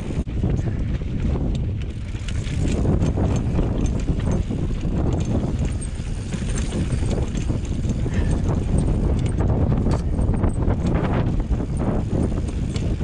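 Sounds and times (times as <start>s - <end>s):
bike rattling and knocking: 0.0s - 13.0s
tyres rumbling on rock: 0.0s - 13.0s.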